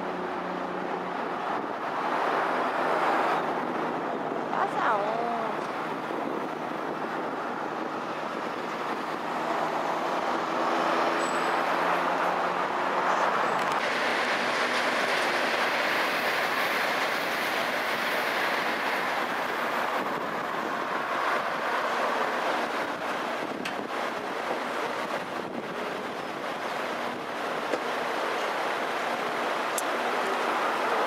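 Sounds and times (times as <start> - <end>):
bus engine: 0.0 - 31.0
high-speed train rushing past: 0.0 - 31.0
road traffic passing: 0.0 - 31.0.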